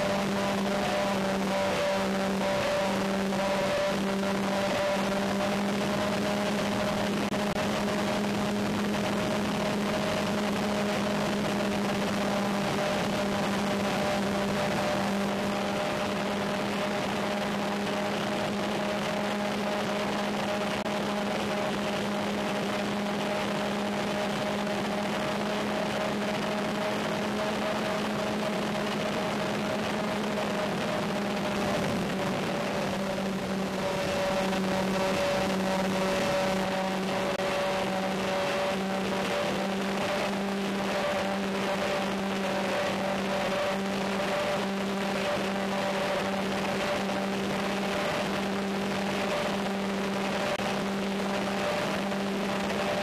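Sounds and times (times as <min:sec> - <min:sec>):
electric motors and propellers whining: 0:00.0 - 0:53.0.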